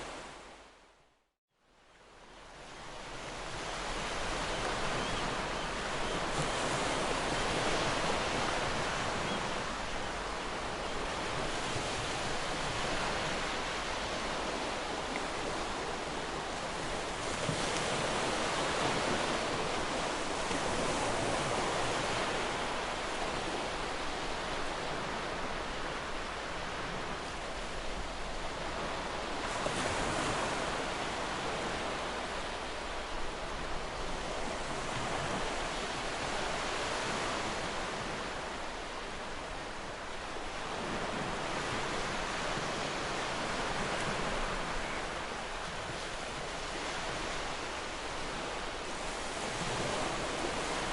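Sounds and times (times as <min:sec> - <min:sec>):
ocean surf breaking on beach: 0:02.5 - 0:50.9.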